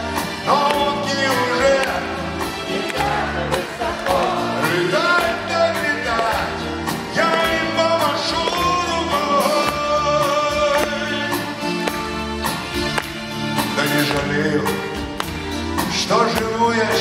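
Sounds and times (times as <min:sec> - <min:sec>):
man singing: 0:00.0 - 0:12.0, 0:13.5 - 0:17.0
acoustic guitar strumming: 0:00.0 - 0:17.0
drums steady beat: 0:00.0 - 0:17.0.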